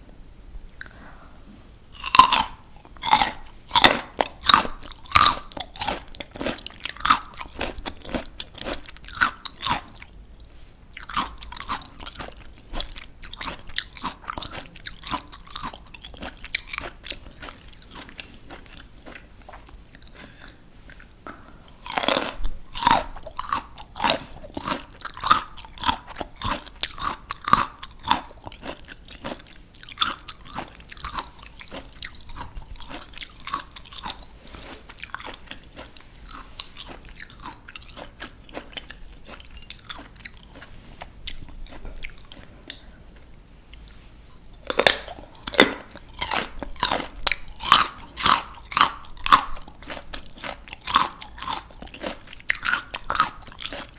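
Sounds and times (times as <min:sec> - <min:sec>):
crisp vegetable bite: 0:02.0 - 0:10.1, 0:11.0 - 0:42.8, 0:44.6 - 0:53.9
crunchy chewing: 0:02.0 - 0:44.0, 0:44.6 - 0:53.9.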